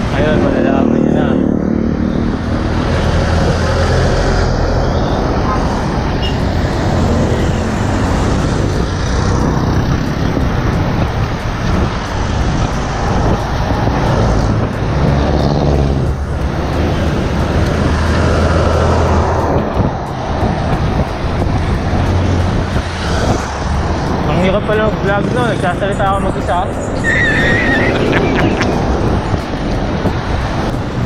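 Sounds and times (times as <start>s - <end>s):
wind rush on microphone: 0.0s - 31.0s.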